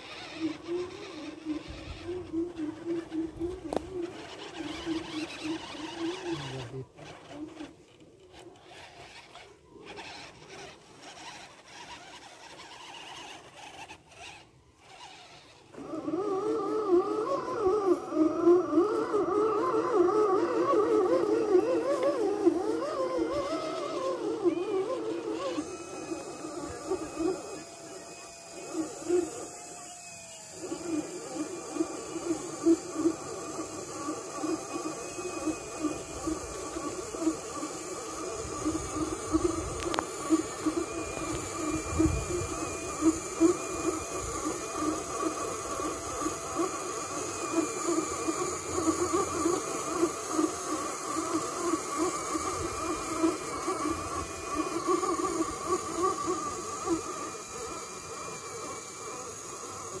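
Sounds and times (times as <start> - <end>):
winch motor whining and chattering: 0.0 - 60.0.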